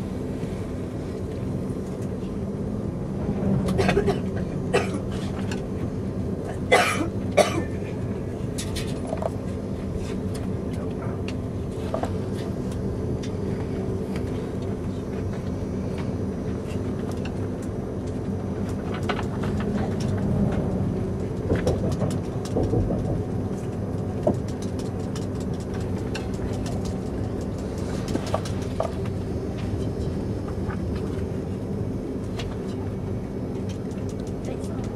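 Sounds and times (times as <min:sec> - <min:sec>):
train rumble and hum: 0:00.0 - 0:34.9.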